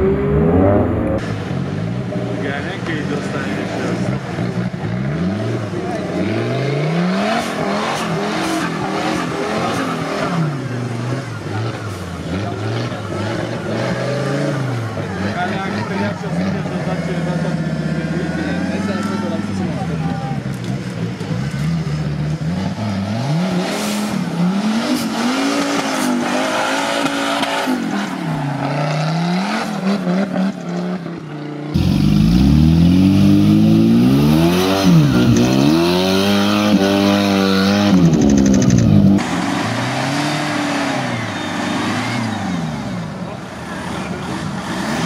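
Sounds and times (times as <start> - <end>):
off-road engines revving: 0.0 - 45.0.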